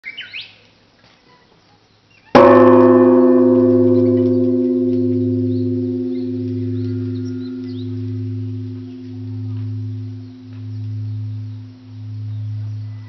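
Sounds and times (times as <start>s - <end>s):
large temple bell ringing: 2.4s - 13.0s.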